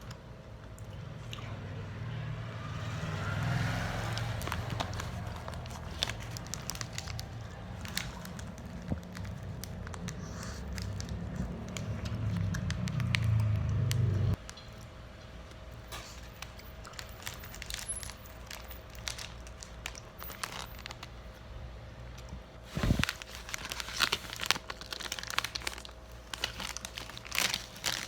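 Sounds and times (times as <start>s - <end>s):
plastic snack packaging crinkling: 3.5s - 21.4s, 22.2s - 28.0s.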